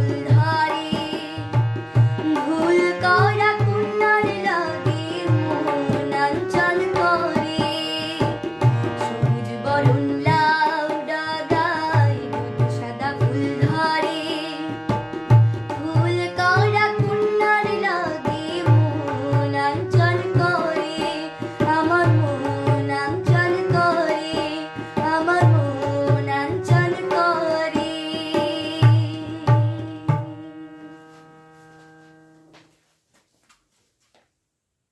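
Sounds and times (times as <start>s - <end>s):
girl singing: 0.0s - 30.9s
harmonium: 0.0s - 32.8s.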